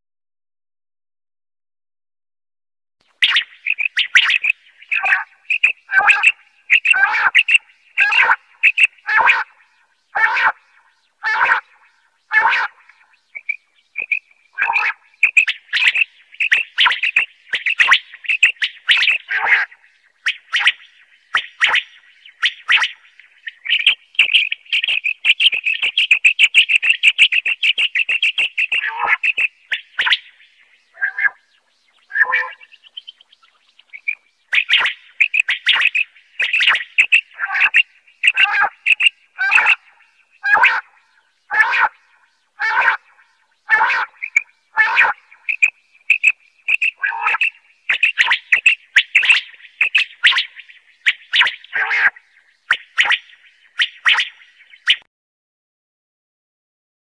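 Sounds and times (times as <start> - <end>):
quail calling: 3.2 - 55.1.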